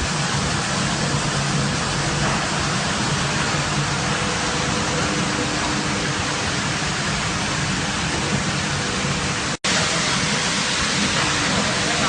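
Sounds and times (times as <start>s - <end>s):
carpet washing machine running: 0.0s - 12.0s.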